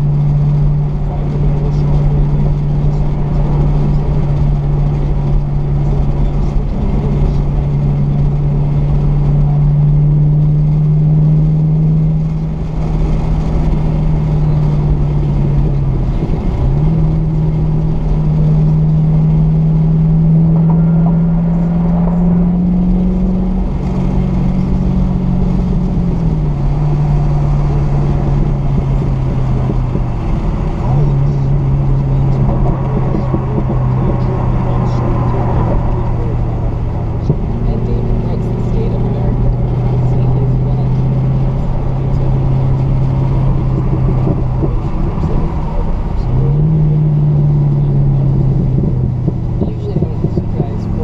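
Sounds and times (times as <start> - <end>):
car engine droning: 0.0 - 51.0
low road rumble: 0.0 - 51.0.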